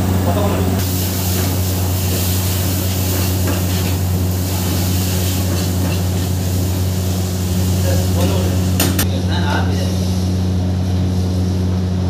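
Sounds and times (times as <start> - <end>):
fire and food frying hiss: 0.0 - 12.0.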